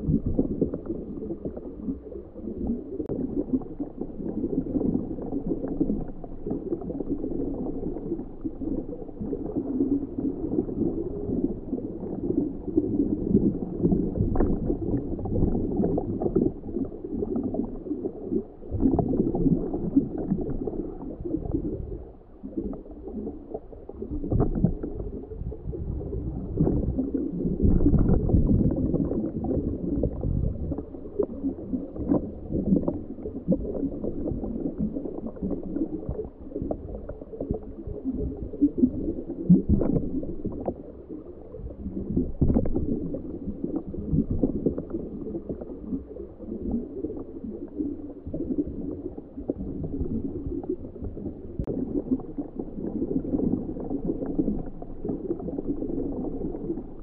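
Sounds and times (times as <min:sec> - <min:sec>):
muffled underwater gurgling: 0:00.0 - 0:57.0.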